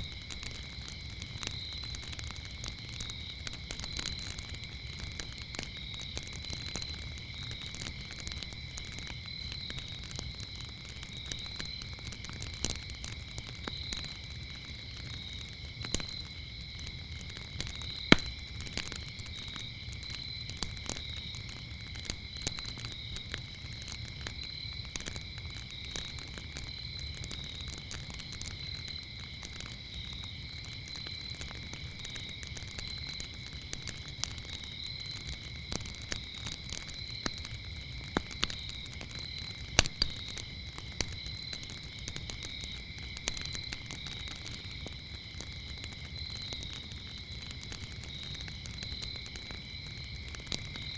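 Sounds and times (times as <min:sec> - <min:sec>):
crickets chirping: 0:00.0 - 0:50.9
wood fire crackling and popping: 0:00.0 - 0:50.9.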